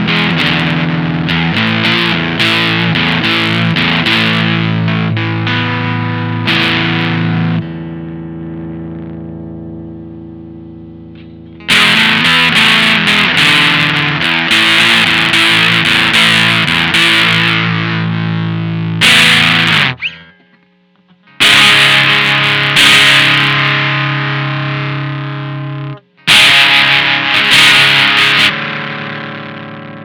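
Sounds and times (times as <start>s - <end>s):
fuzzed electric guitar riff: 0.0s - 30.0s.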